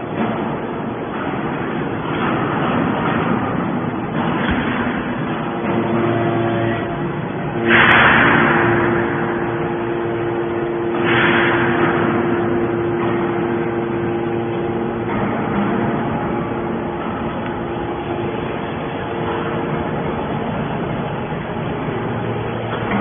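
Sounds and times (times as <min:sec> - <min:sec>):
hydraulic pump humming: 0:00.0 - 0:23.0
loud rushes of noise: 0:04.4 - 0:23.0.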